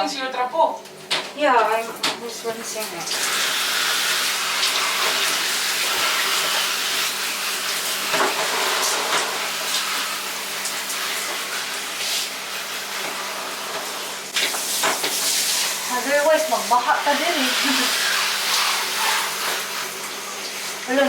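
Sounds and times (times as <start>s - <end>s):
water running from tap: 0.8s - 21.0s.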